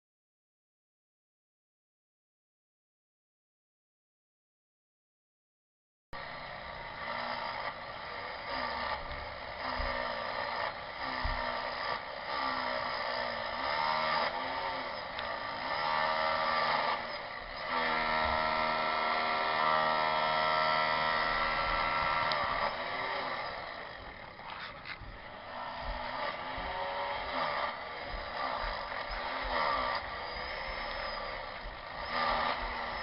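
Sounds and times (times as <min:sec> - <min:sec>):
electric drill whine: 0:06.2 - 0:33.0.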